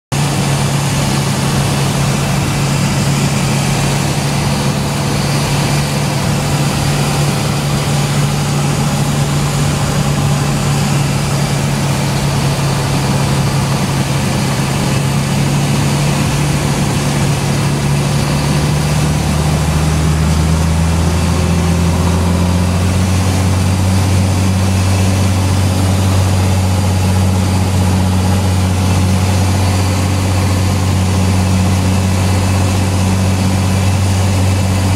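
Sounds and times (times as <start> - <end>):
light aircraft engine drone: 0.2 - 34.9.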